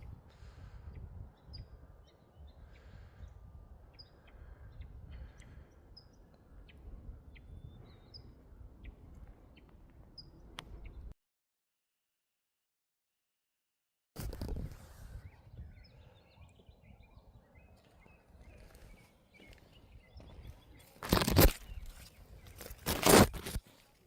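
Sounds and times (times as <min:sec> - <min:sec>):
birds chirping: 0:00.0 - 0:11.2, 0:14.5 - 0:23.9.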